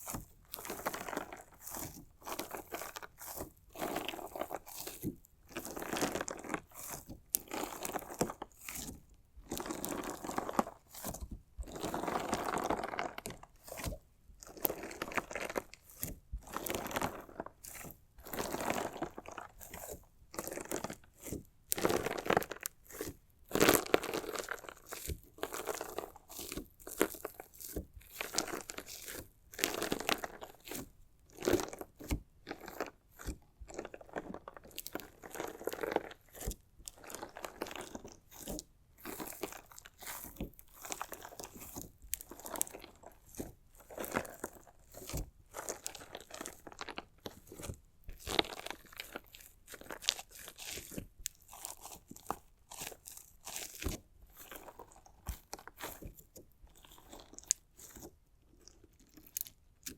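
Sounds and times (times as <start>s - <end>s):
crunchy slime crackling: 0.0s - 59.9s.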